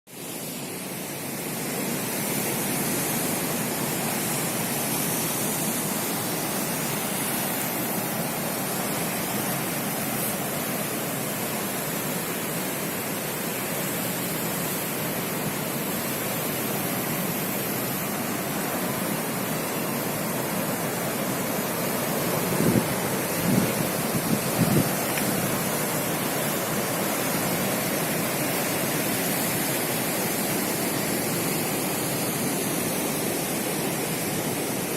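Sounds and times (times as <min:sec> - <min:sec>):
ocean waves breaking: 0:01.5 - 0:34.9.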